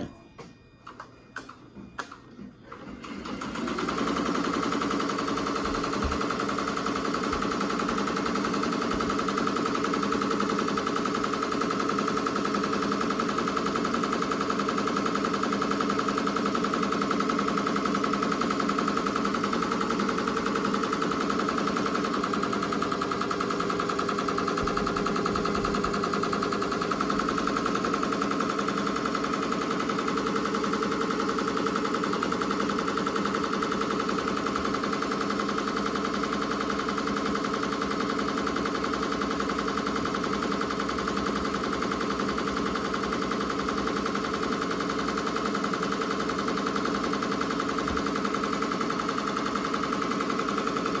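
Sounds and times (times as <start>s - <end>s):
embroidery machine stitching: 1.4s - 51.0s.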